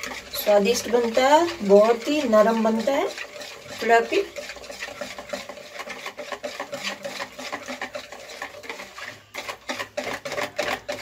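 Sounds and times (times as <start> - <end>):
wire whisk beating batter in bowl: 0.0 - 11.0.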